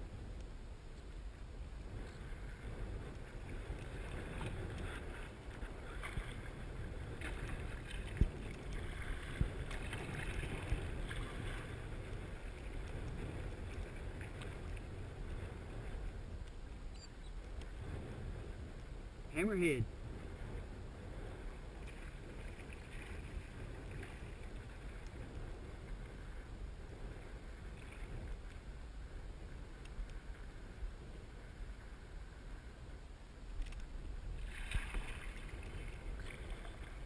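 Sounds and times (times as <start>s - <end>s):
water lapping against kayak hull: 1.0s - 19.0s, 20.0s - 32.6s, 33.4s - 37.0s
wind buffeting microphone: 1.2s - 37.0s.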